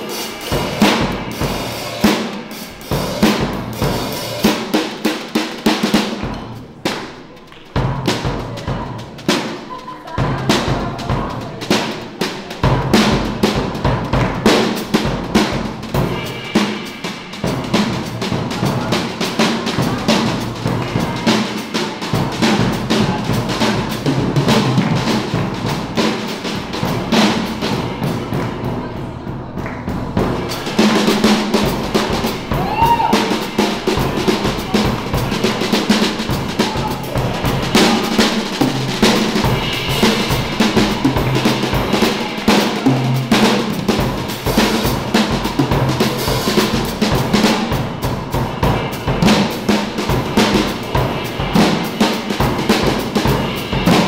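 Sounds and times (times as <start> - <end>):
acoustic drum kit playing: 0.0 - 54.0.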